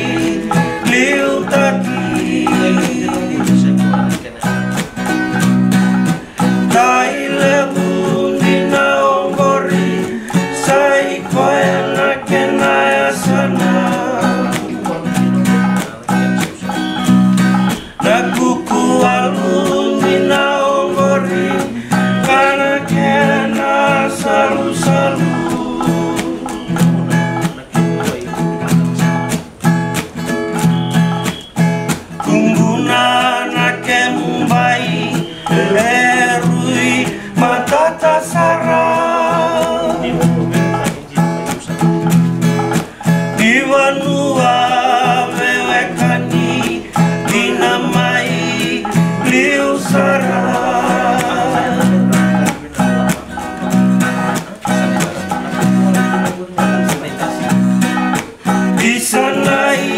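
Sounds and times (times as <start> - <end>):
men singing: 0.0 - 29.2, 30.7 - 59.9
strummed acoustic guitar: 0.0 - 59.9.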